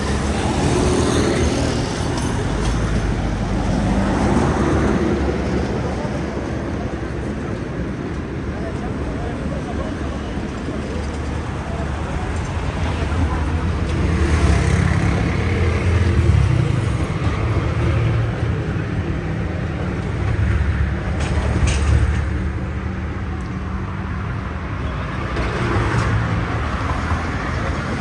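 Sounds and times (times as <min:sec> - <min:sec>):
heavy road traffic rumble: 0:00.0 - 0:28.0.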